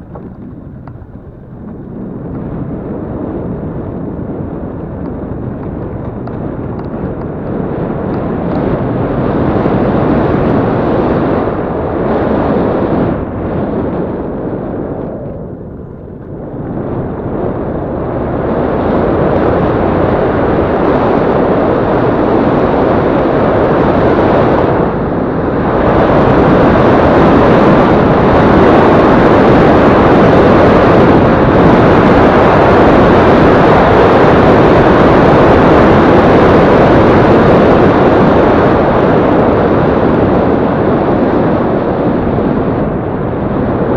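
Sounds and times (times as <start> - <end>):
motorcycle engine: 0.0 - 43.9
wind rushing on microphone: 0.0 - 43.9.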